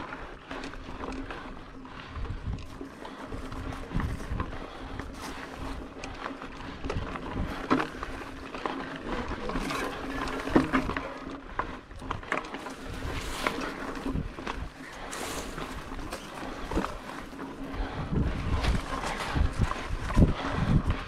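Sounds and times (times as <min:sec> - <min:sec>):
bike knocking and rattling: 0:00.0 - 0:21.0
bike tyres rolling on dirt: 0:00.0 - 0:21.0
wind rumble on microphone: 0:00.0 - 0:21.0.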